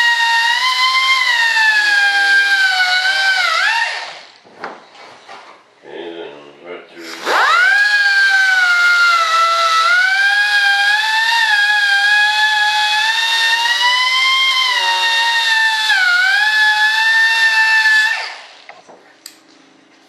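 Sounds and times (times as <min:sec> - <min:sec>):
rotary power tool whining: 0:00.0 - 0:04.4, 0:07.0 - 0:18.9.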